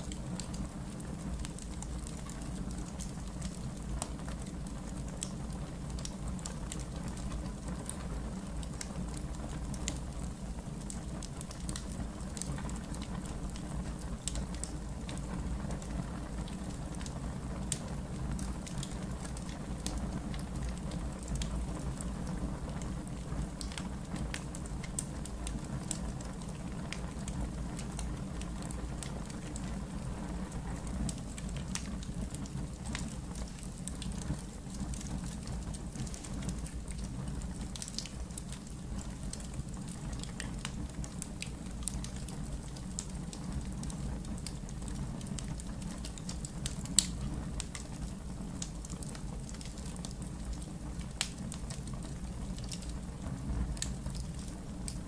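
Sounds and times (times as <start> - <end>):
fire crackles and pops: 0.0 - 55.0
fire low rumble: 0.0 - 55.0.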